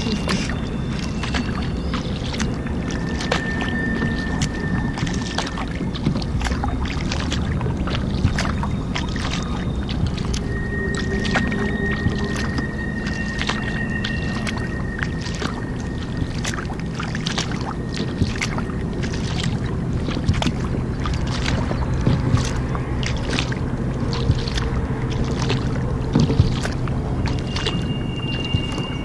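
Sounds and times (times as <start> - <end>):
paddle splashing in water: 0.0 - 29.0
steady low hum: 0.0 - 29.0.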